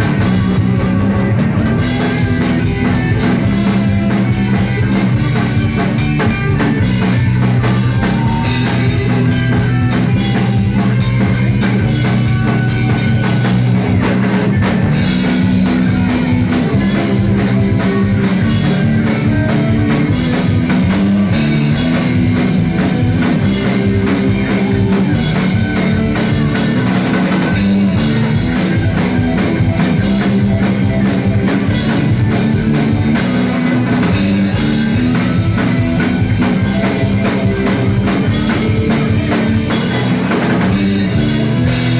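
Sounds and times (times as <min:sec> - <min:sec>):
bass: 0:00.0 - 0:41.9
drum kit beat: 0:00.0 - 0:41.9
guitar: 0:00.0 - 0:41.9.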